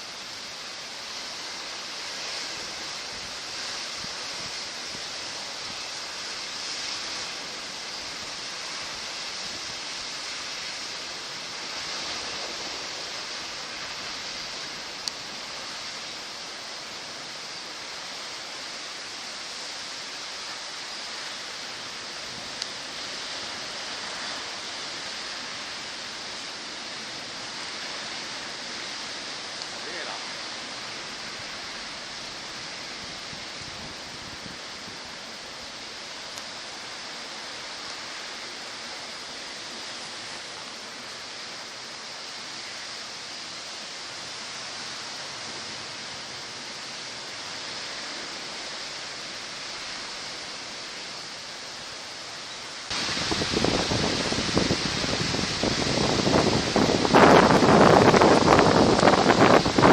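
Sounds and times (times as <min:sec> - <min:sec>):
heavy ocean surf rushing: 0:00.0 - 0:59.9.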